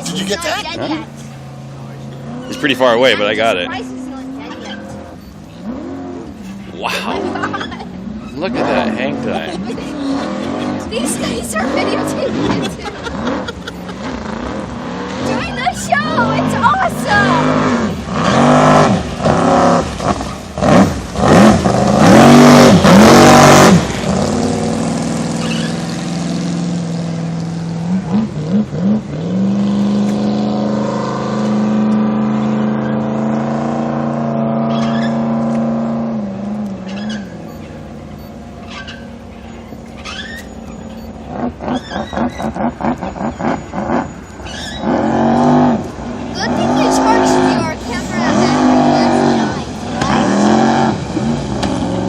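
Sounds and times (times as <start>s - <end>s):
boat engine revving: 0.0s - 52.0s.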